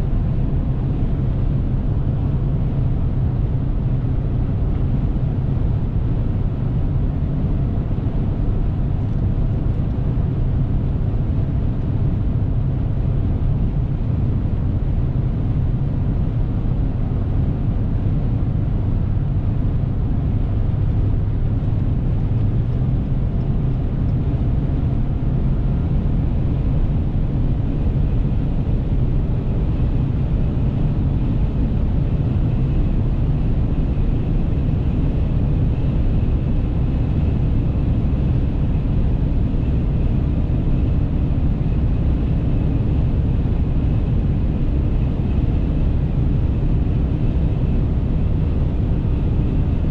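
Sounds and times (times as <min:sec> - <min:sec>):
vehicle cab drone: 0:00.0 - 0:49.9.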